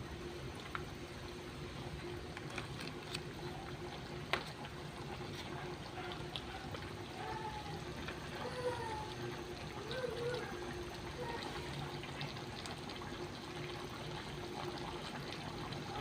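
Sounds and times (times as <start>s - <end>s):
water pouring and trickling: 2.3s - 16.0s.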